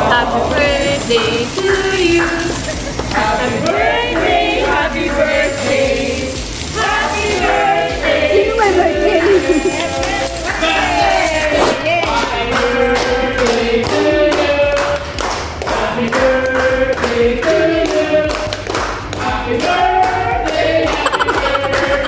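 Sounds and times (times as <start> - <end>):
group singing a birthday song: 0.0 - 22.0
rhythmic clapping: 0.0 - 22.0.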